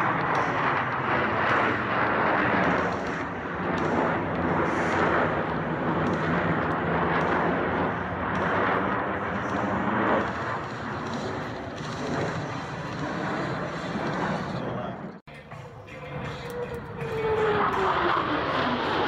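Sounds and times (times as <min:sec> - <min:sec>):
aircraft engine roar: 0:00.0 - 0:19.0
low pitched drone: 0:00.0 - 0:19.0.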